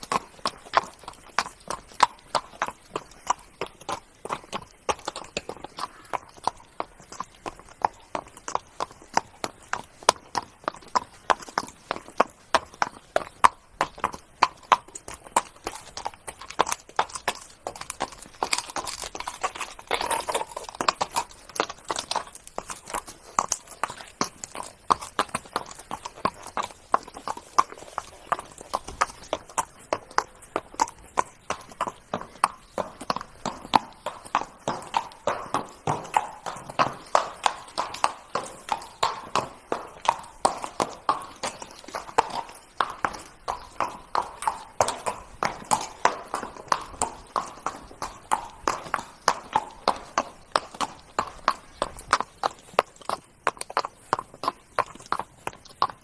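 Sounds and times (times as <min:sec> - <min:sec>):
horse hooves trotting: 0:00.0 - 0:56.0.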